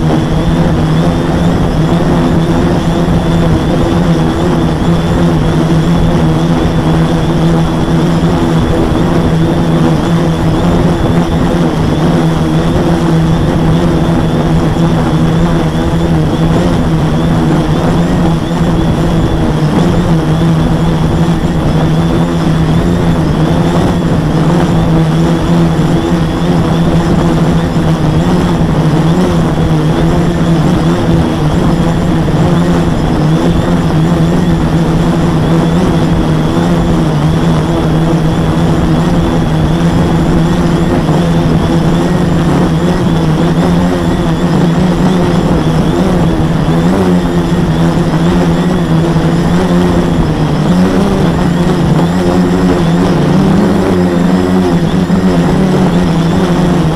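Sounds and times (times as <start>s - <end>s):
drone motors buzzing: 0.0s - 56.9s.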